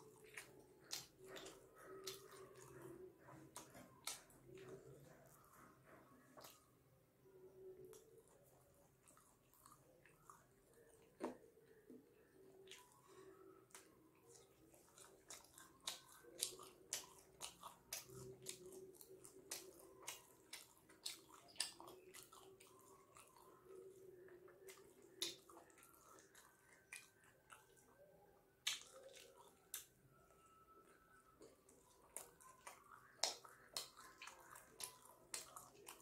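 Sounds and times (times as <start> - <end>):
close-up chewing: 0.0 - 36.0.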